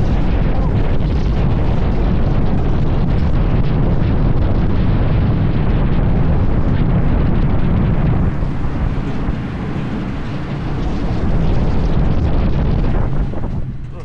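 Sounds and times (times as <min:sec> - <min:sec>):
roller coaster wheels rumbling: 0:00.0 - 0:14.0
wind buffeting microphone: 0:00.0 - 0:14.0.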